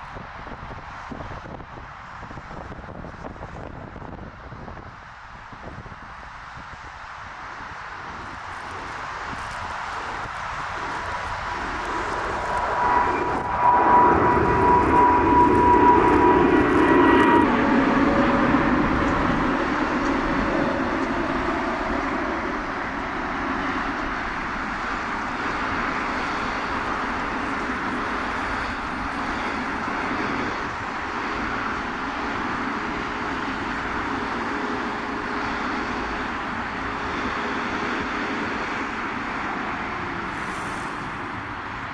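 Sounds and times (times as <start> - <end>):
jet plane taking off overhead: 0.0 - 41.9.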